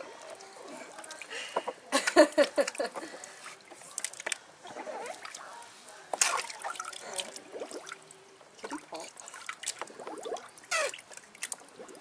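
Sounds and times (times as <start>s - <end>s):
water splashing in a plastic tub: 0.0s - 12.0s.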